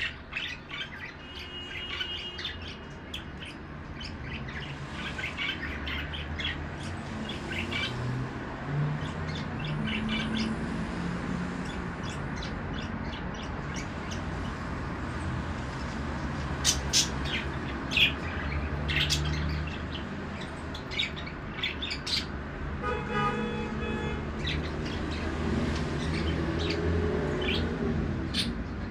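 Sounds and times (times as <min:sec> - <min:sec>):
budgerigars chirping: 0:00.0 - 0:08.2, 0:09.0 - 0:10.6, 0:11.6 - 0:22.4, 0:24.0 - 0:28.9.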